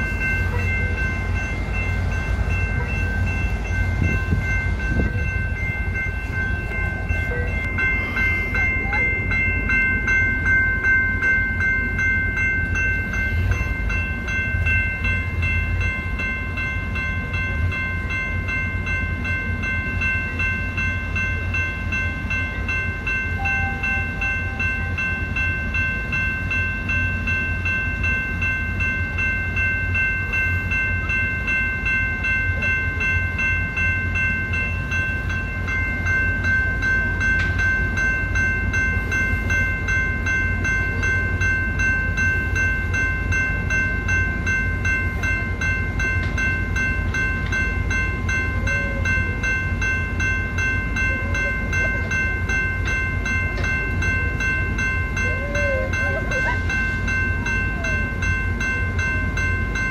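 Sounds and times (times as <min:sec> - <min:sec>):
crossing warning bell ringing: 0:00.0 - 0:59.9
train rumble: 0:00.0 - 0:59.9
wind: 0:00.0 - 0:59.9.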